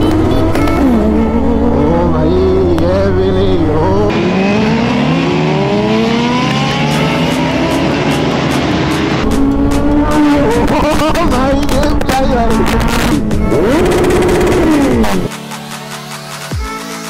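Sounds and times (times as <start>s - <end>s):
motorcycle engine revving: 0.0s - 15.3s.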